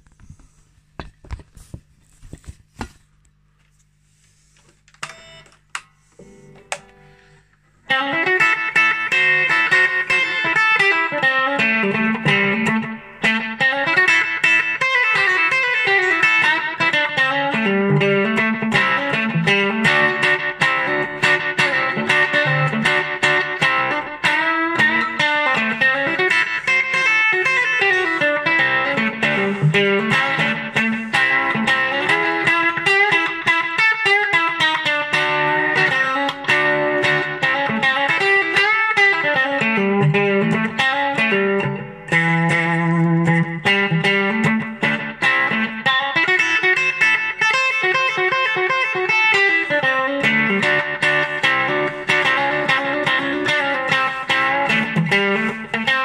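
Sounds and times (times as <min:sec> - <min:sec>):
electric guitar lead line: 0:05.0 - 0:56.0.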